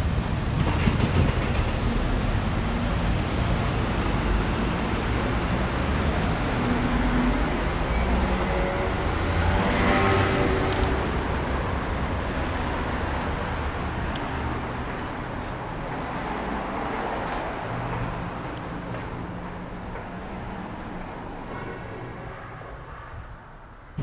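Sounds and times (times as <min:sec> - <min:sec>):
passing vehicles rushing: 0:00.0 - 0:24.0.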